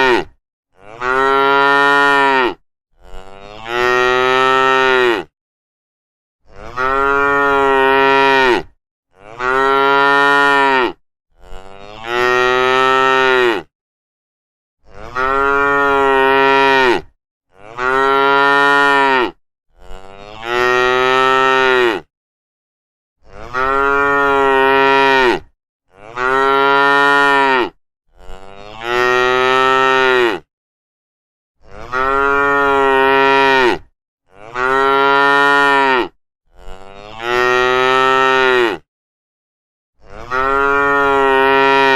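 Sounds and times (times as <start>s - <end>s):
cows mooing: 0.0s - 5.3s, 6.5s - 13.7s, 14.9s - 22.1s, 23.3s - 30.5s, 31.7s - 38.8s, 40.1s - 41.9s.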